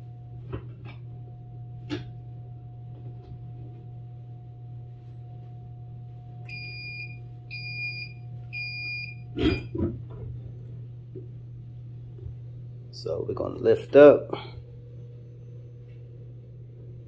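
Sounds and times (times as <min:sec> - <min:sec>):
faint steady whine: 0:00.0 - 0:17.0
low steady hum: 0:00.0 - 0:17.0.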